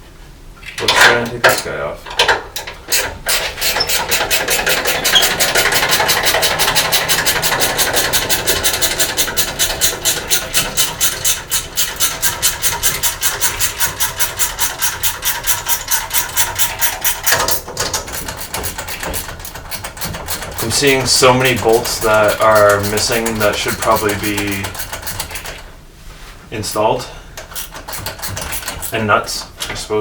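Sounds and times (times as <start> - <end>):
ratchet wrench clicking: 2.9 - 25.6, 27.4 - 29.0.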